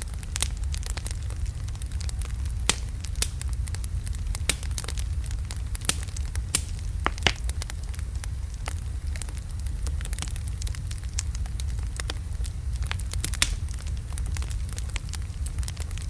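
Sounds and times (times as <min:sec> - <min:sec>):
burning logs crackling and popping: 0:00.0 - 0:16.0
low rumble of flames: 0:00.0 - 0:16.0.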